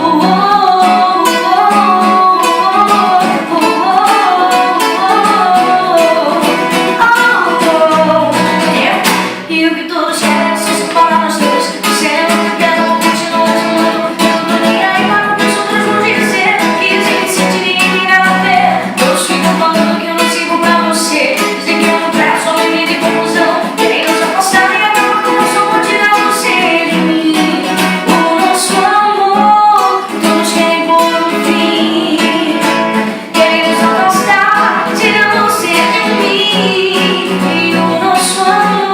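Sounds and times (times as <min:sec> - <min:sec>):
strummed guitar: 0:00.0 - 0:38.9
woman singing a pop ballad: 0:00.0 - 0:38.9.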